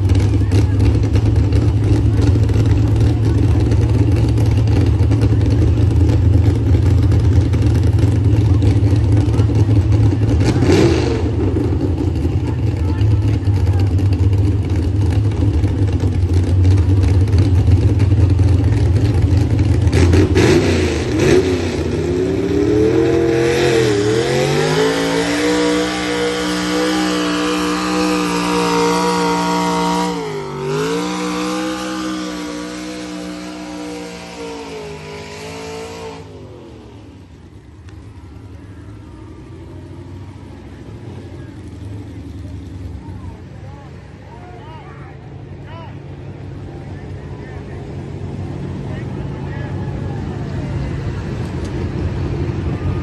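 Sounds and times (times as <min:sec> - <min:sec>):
vehicle engine revving: 0:00.0 - 0:44.3.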